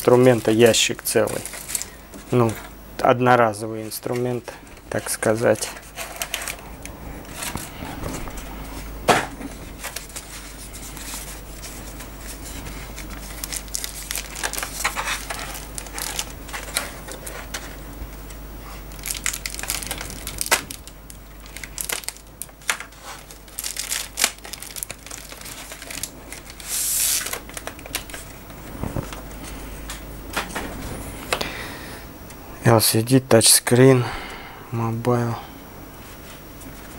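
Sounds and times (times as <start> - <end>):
plastic wrap crinkling: 0.0 - 3.1, 3.7 - 31.4.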